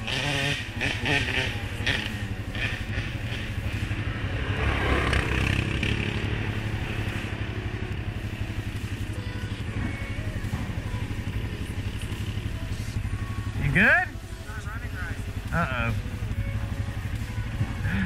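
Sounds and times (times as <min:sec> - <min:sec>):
atv idling: 0:00.0 - 0:18.0
atv riding past: 0:00.0 - 0:18.0.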